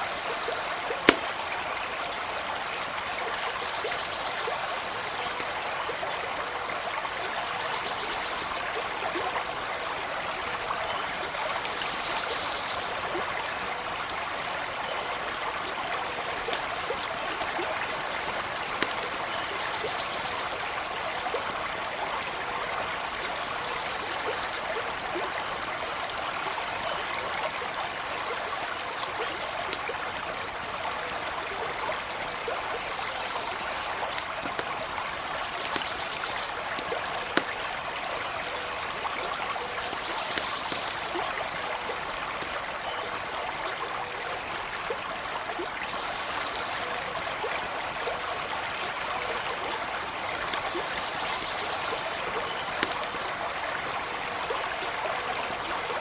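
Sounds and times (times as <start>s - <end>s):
small stream running: 0.0s - 56.0s
campfire popping and crackling: 0.3s - 56.0s.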